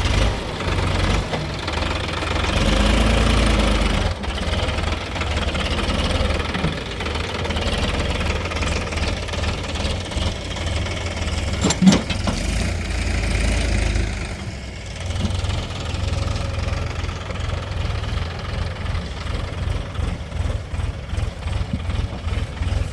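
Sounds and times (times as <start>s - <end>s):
heavy machinery diesel engine rumbling: 0.0s - 22.9s.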